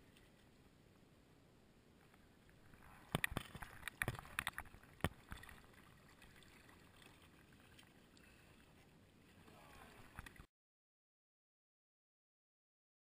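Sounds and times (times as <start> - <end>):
faint water around hull: 0.0 - 10.5.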